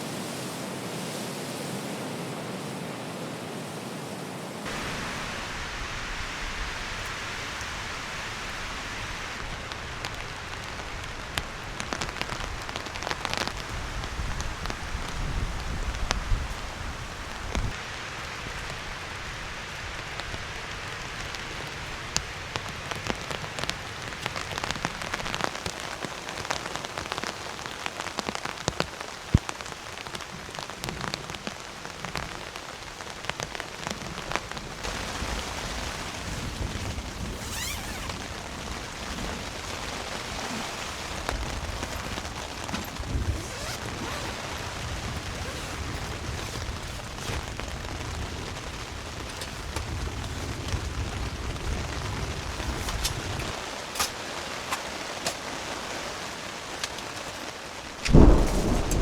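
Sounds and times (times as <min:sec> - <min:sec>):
heavy rain falling: 0:03.3 - 0:59.0
raindrops hitting a surface: 0:04.6 - 0:59.0.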